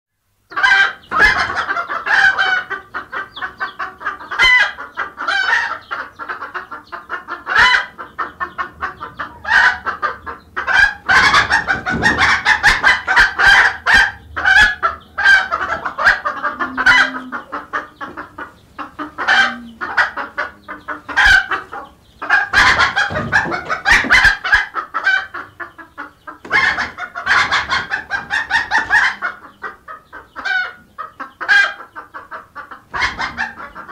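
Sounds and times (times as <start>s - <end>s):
chicks peeping: 0.5s - 33.9s
hens clucking: 0.5s - 33.9s.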